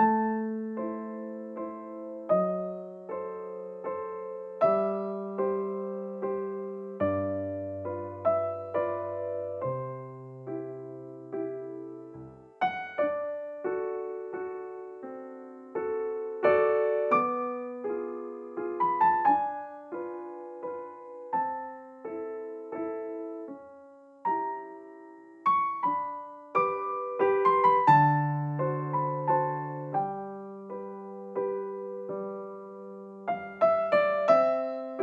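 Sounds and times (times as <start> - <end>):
gentle solo piano piece: 0.0 - 35.0.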